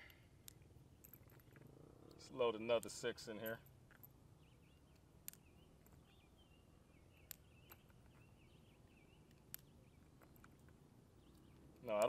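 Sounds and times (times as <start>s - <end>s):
cartridges clicking into revolver: 0.0s - 12.0s
faint birdsong: 0.0s - 12.0s.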